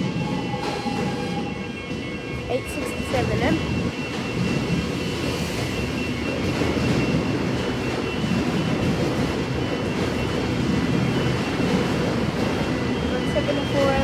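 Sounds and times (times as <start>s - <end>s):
train wheels and motors rumbling: 0.0s - 14.0s.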